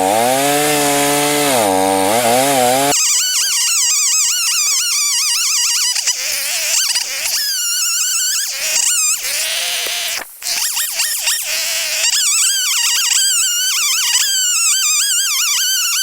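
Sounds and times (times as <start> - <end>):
chainsaw cutting: 0.0 - 16.0.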